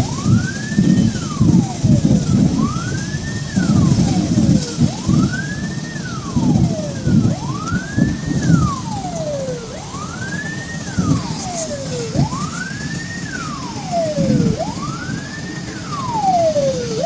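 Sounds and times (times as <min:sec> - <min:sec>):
emergency vehicle siren wailing: 0:00.0 - 0:17.0.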